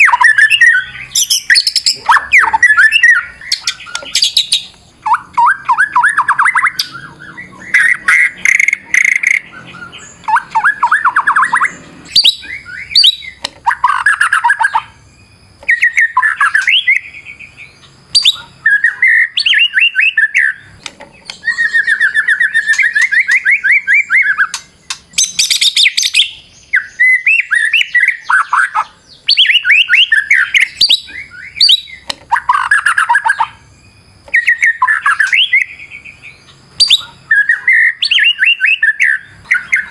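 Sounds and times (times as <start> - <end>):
bird singing trills and whistles: 0.0 - 39.9
sharp bird clicks: 1.4 - 14.9, 15.6 - 33.6, 34.2 - 39.9.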